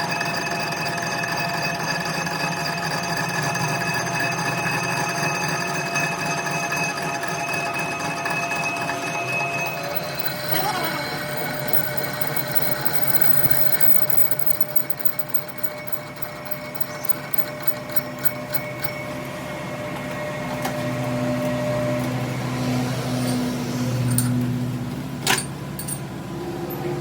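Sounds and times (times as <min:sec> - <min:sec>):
workshop machine humming: 0:00.9 - 0:27.0.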